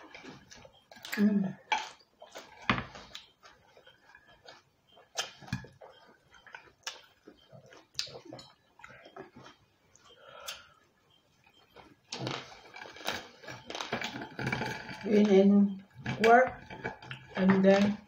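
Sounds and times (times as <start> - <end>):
chewing: 0.0 - 17.6.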